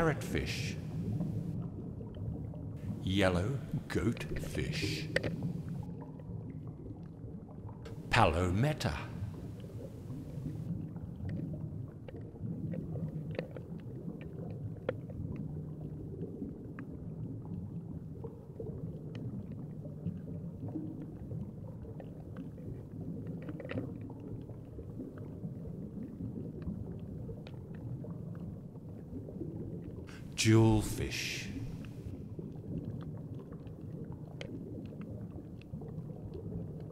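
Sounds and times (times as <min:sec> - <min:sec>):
muffled underwater rumble: 0:00.0 - 0:08.1, 0:08.9 - 0:36.9
faint clicks and crackles: 0:04.2 - 0:08.0, 0:09.2 - 0:30.2, 0:31.6 - 0:36.9.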